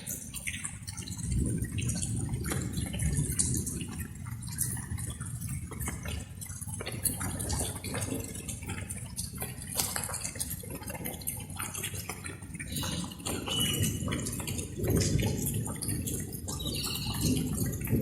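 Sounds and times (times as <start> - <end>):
water dripping: 0.0 - 18.0.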